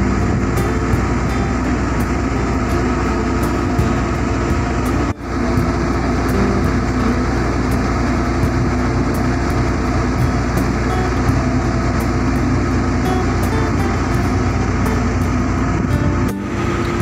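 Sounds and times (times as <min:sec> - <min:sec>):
boat engines running: 0:00.0 - 0:17.0
wind and water rushing over hull: 0:00.0 - 0:17.0.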